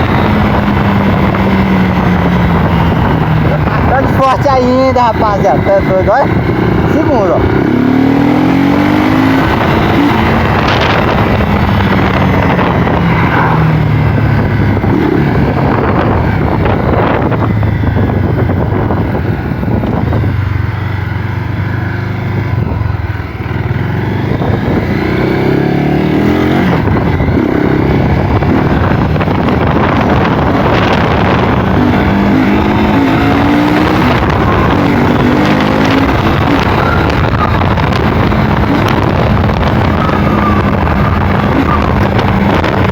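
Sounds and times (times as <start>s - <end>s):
motorcycle engine revving: 0.0s - 42.9s
wind on microphone: 0.0s - 42.9s.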